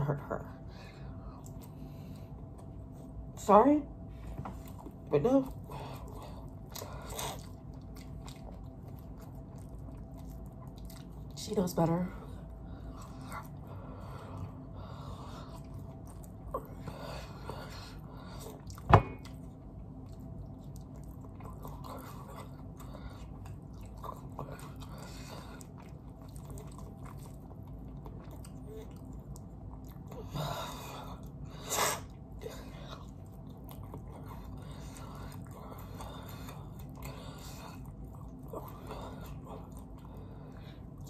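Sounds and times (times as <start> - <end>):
person chewing: 5.8 - 11.4, 12.4 - 41.0.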